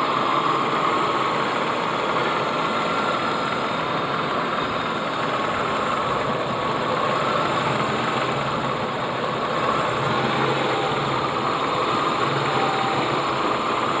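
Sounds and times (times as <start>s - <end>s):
car engine idling roughly: 0.0s - 14.0s.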